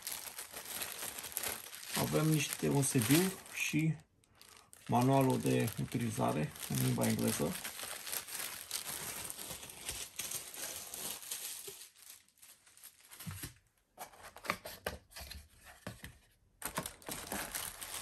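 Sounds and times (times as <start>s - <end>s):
plastic packaging crinkling: 0.0s - 13.6s, 16.6s - 18.0s.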